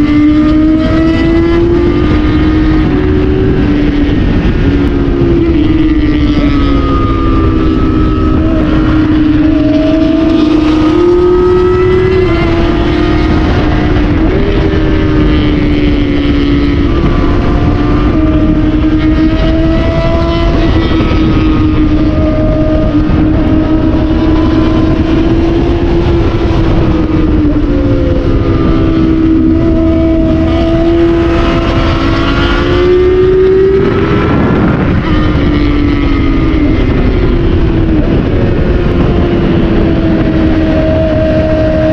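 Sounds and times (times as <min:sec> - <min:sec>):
motorcycle engine running hard: 0:00.0 - 0:41.9
wind noise: 0:00.0 - 0:41.9.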